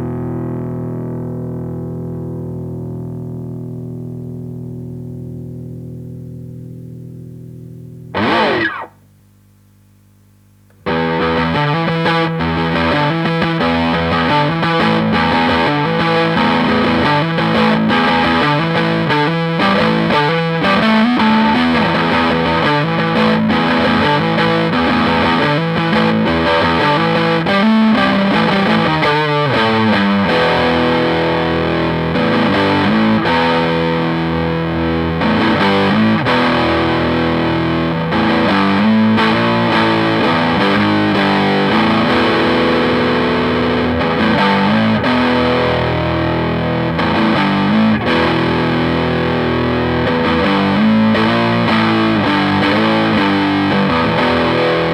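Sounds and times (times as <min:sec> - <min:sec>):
distorted electric guitar riffing: 0:00.0 - 0:09.2, 0:10.8 - 0:54.9.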